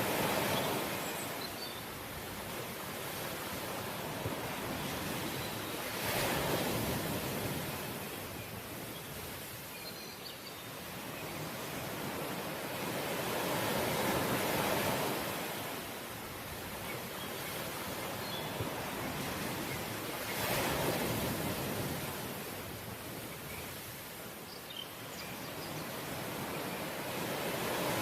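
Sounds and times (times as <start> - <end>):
sea waves washing onto shore: 0.0 - 9.8, 10.7 - 28.0.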